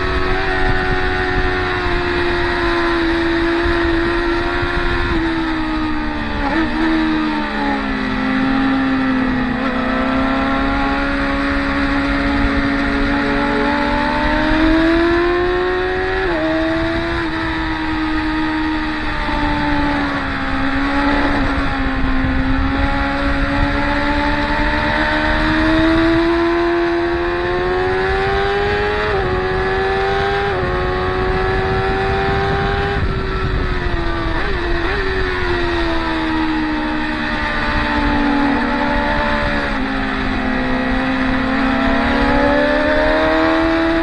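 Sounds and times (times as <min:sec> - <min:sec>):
motorcycle engines revving: 0:00.0 - 0:44.0.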